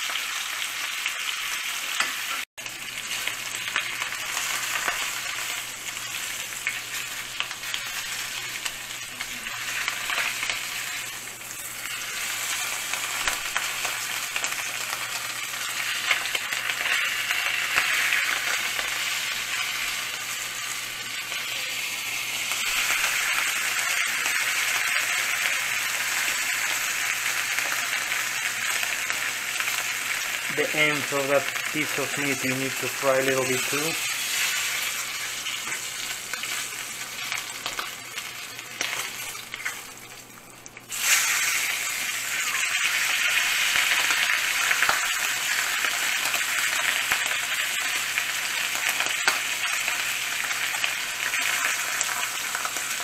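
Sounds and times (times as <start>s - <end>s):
meat sizzling in a frying pan: 0.0s - 53.0s.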